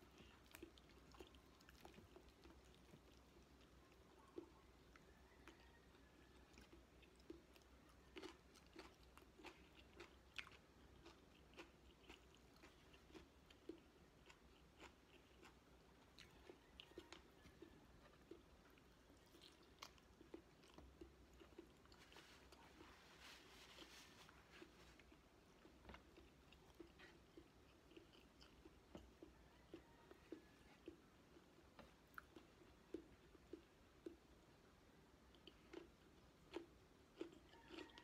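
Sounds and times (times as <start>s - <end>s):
person chewing: 0.0s - 38.0s.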